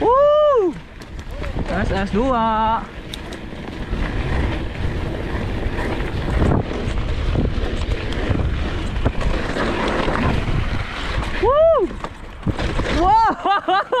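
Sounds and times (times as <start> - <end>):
wind buffeting microphone: 0.0 - 13.3
mountain bike rumble and rattle: 0.0 - 14.0
tyres on dirt: 0.0 - 14.0
bike knocking over bumps: 0.9 - 2.2, 3.0 - 13.6.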